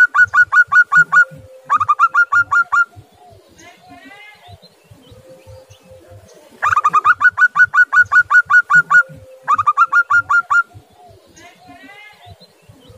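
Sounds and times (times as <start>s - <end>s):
dove staccato call: 0.0s - 12.9s.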